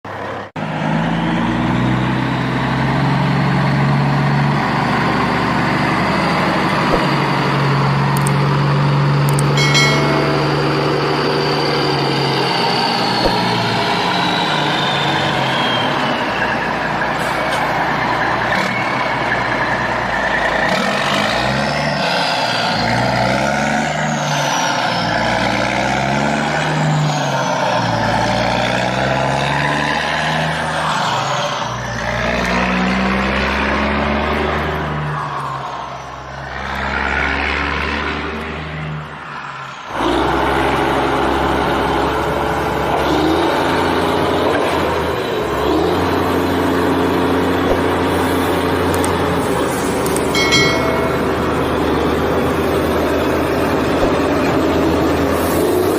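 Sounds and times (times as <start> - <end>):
backhoe engine revving: 0.1 - 39.2, 39.8 - 55.9.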